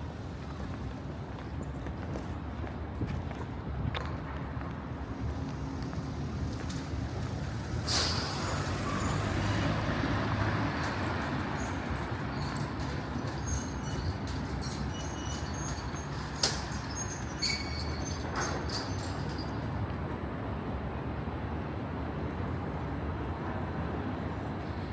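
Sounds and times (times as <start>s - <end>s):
street traffic rumble: 0.0s - 24.9s.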